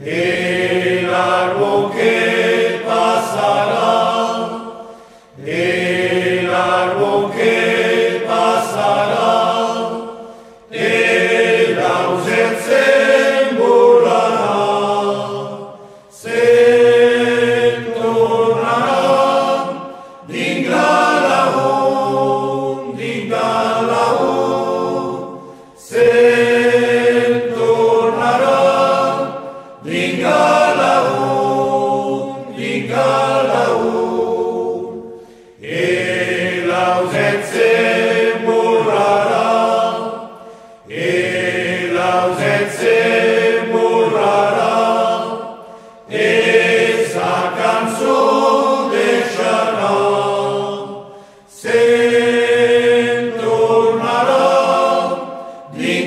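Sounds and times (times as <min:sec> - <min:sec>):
choir chanting: 0:00.0 - 0:56.0.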